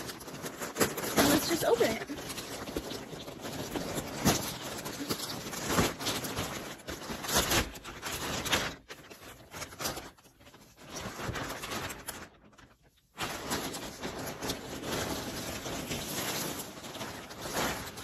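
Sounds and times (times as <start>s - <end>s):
plastic mailer rustling and crackling: 0.0s - 18.0s.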